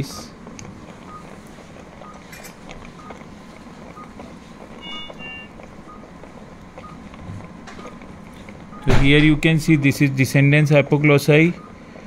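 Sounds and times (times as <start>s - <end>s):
low equipment hum: 0.0s - 12.0s
patient monitor beeping: 0.0s - 12.0s.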